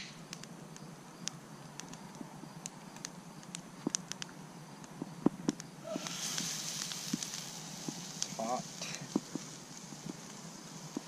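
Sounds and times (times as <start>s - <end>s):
steady hiss: 0.0s - 11.0s
wood fire crackling: 0.0s - 11.0s.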